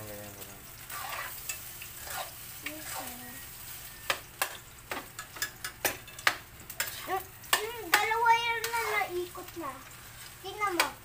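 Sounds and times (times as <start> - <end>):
hotdogs sizzling in a pan: 0.0 - 11.0.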